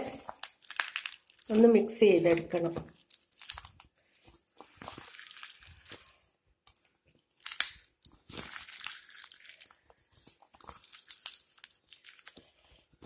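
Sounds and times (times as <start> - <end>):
hand squeezing vegetables in bowl: 0.0 - 13.0.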